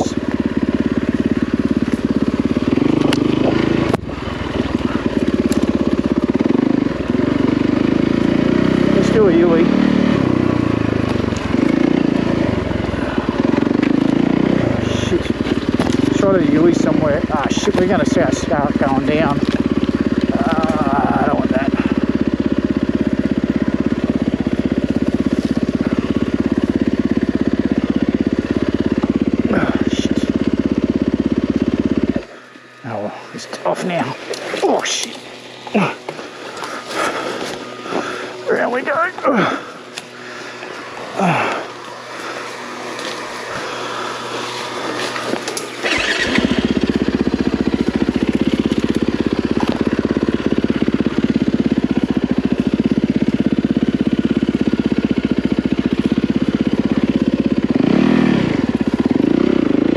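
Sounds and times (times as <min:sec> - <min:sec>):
motorcycle engine running at low revs: 0:00.0 - 0:59.9.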